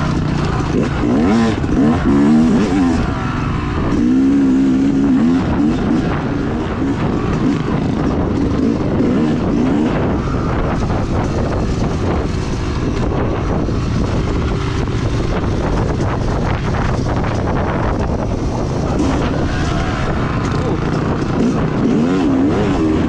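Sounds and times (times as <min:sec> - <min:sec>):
dirt bike engine revving: 0:00.0 - 0:23.0
wind on microphone: 0:00.0 - 0:23.0.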